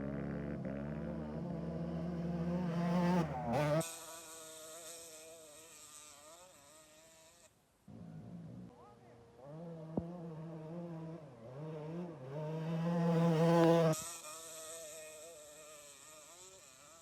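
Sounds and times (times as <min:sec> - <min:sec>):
dirt bike engine buzzing: 0:00.0 - 0:17.0.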